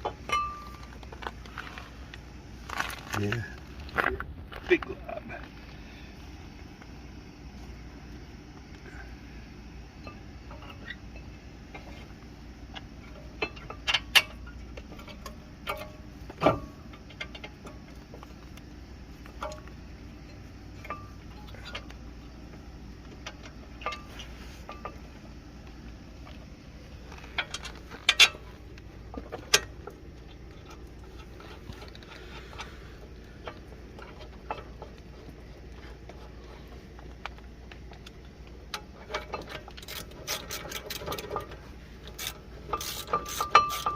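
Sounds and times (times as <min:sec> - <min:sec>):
clinks of tools and brake parts: 0:00.0 - 0:04.2, 0:10.0 - 0:43.9.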